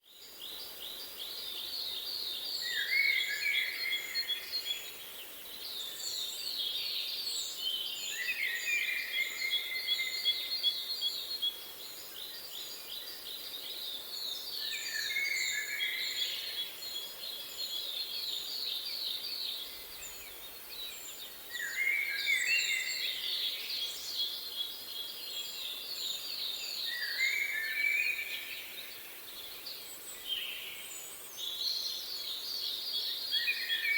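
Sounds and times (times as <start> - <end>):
songbirds singing: 0.0 - 33.9
faint steady hiss: 0.1 - 33.9.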